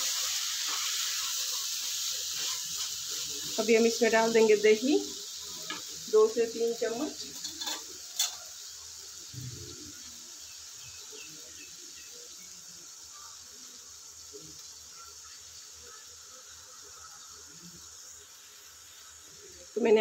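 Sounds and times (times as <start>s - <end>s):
faint sizzle in a pan: 0.0s - 20.0s.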